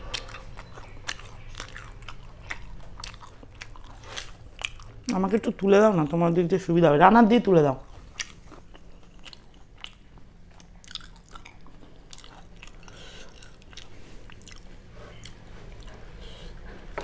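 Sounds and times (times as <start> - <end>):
person chewing food: 0.0 - 6.4, 7.8 - 17.0
faint low hum: 0.0 - 17.0.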